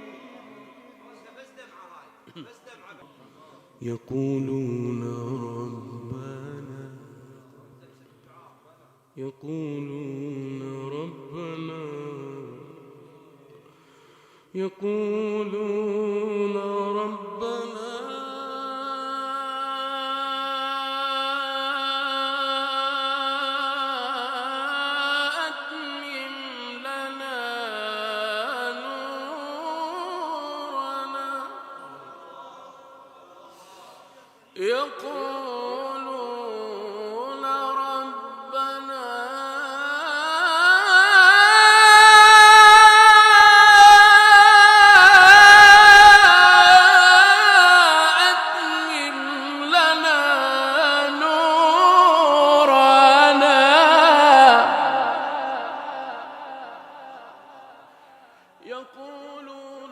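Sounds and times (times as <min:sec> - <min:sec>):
man reciting a long melismatic note: 0:03.2 - 0:13.6, 0:14.6 - 0:59.9.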